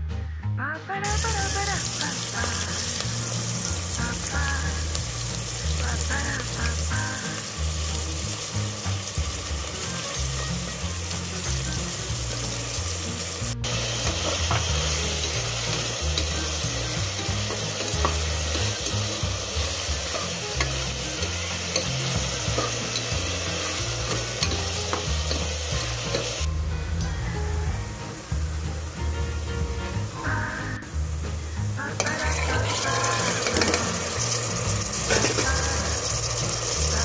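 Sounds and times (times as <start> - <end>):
onions sizzling in hot oil: 1.0 - 26.5, 27.9 - 37.0.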